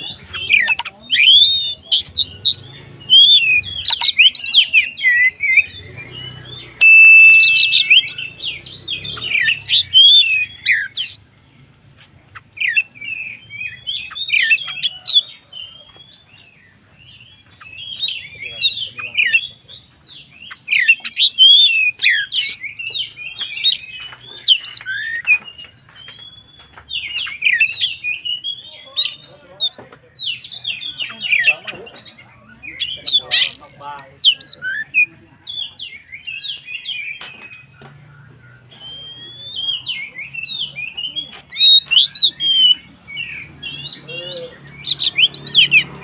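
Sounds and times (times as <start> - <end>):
magpie-robin singing: 0.0 - 46.0.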